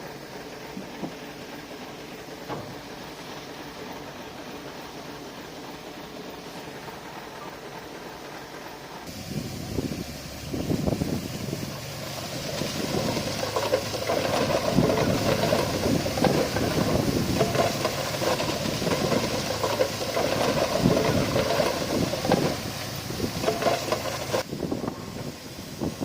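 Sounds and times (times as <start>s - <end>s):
clanks and rattles: 0.0s - 8.8s, 12.2s - 24.5s
diesel machinery under load: 0.0s - 26.0s.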